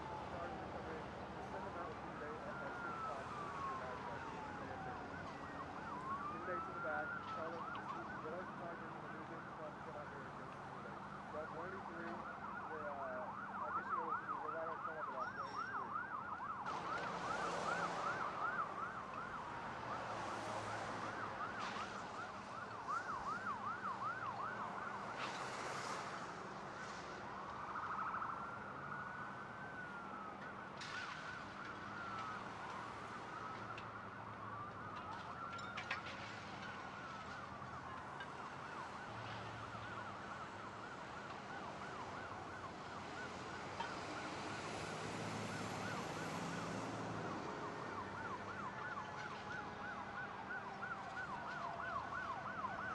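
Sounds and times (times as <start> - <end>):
siren yelp: 0.0 - 52.9
wailing sirens: 0.0 - 52.9.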